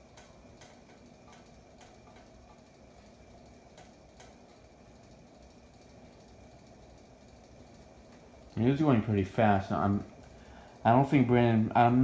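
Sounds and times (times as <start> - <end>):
ceiling fan whoosh and motor hum: 0.0 - 12.0.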